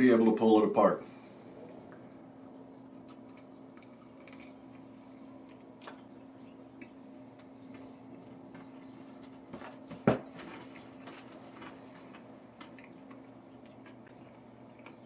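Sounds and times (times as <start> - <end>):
crunchy chewing: 1.5 - 9.8, 10.4 - 15.0.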